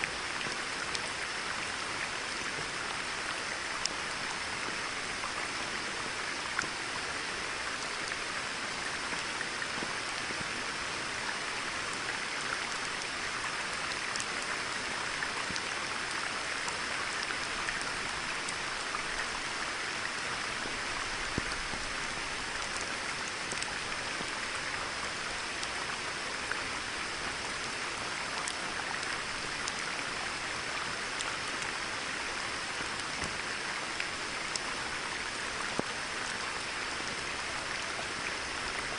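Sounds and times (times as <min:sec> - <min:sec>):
rain falling on a pond: 0:00.0 - 0:38.9.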